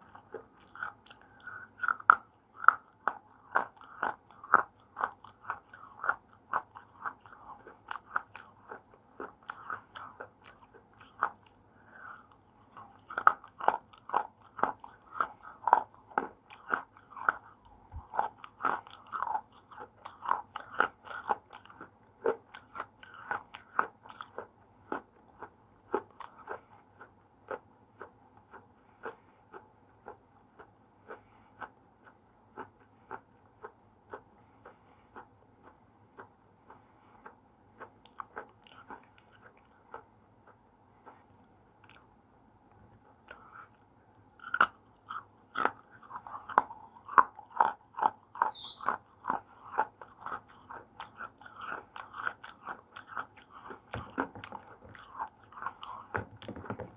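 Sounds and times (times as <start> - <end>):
slate pencil chewing crunches: 0.0 - 42.1, 42.8 - 56.9.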